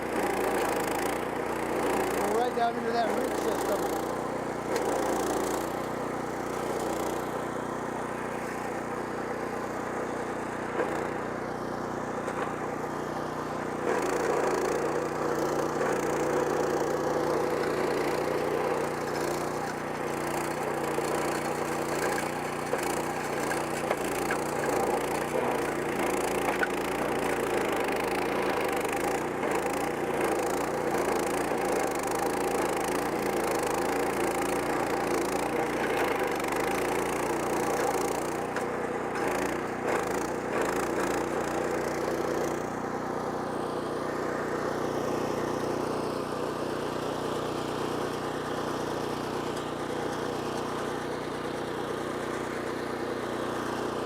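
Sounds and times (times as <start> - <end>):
cutter wheel grinding wood: 0.0 - 54.0
stump grinder engine running: 0.0 - 54.0.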